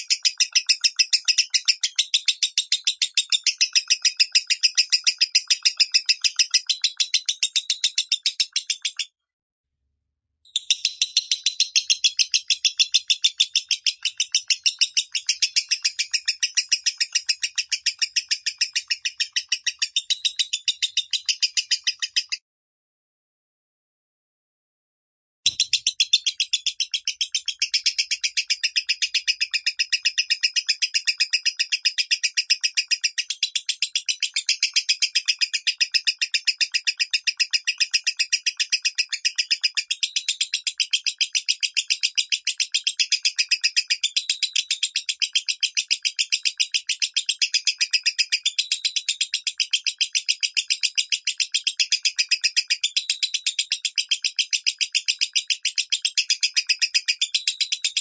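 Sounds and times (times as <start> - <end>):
lovebird chirping rapidly: 0.0 - 9.1, 10.5 - 22.4, 25.5 - 58.0.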